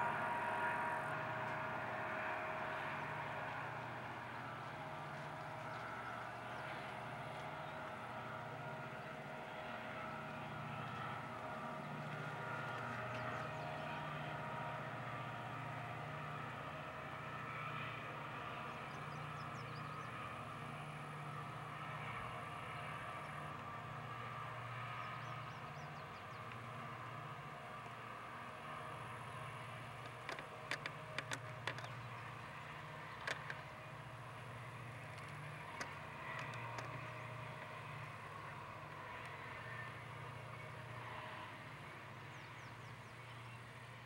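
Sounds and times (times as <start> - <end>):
distant freight train rumbling: 0.0 - 44.0
low even drone: 0.0 - 44.0.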